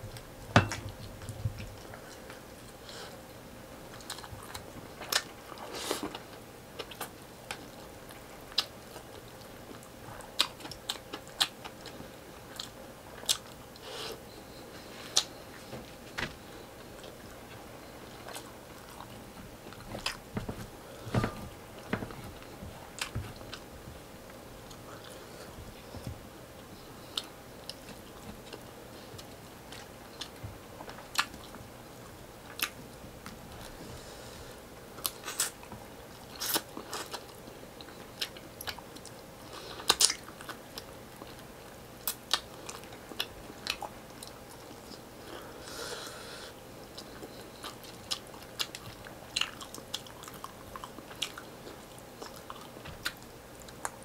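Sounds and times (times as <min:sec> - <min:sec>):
chewing and crunching: 0:03.9 - 0:15.7, 0:16.4 - 0:33.8, 0:34.8 - 0:45.6, 0:46.8 - 0:54.0.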